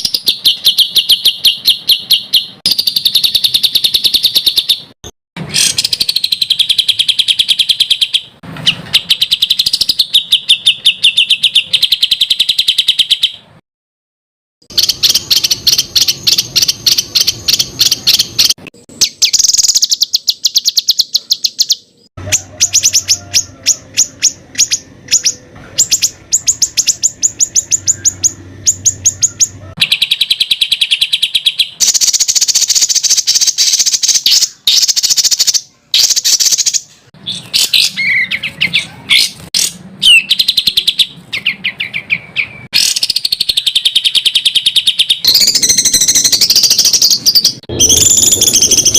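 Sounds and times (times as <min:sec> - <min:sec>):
songbird rapid chirping: 0:00.0 - 0:13.6, 0:14.6 - 0:48.9.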